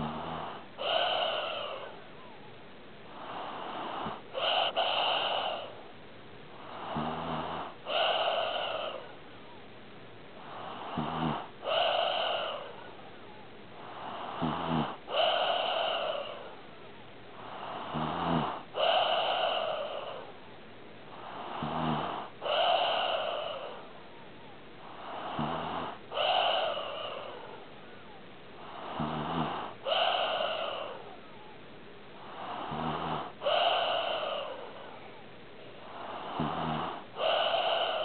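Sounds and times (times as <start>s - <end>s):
pet snoring: 0.0s - 2.4s, 3.1s - 5.8s, 6.6s - 9.2s, 10.4s - 13.0s, 13.8s - 16.6s, 17.4s - 20.3s, 21.1s - 23.9s, 24.8s - 31.5s, 32.2s - 38.0s.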